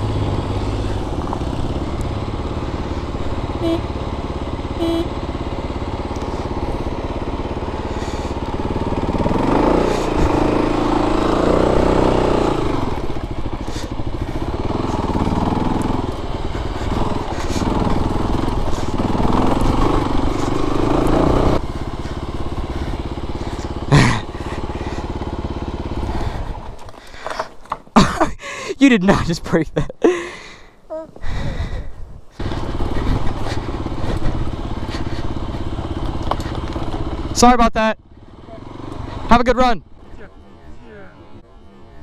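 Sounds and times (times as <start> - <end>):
motorcycle engine revving: 0.0 - 28.2, 31.4 - 42.0.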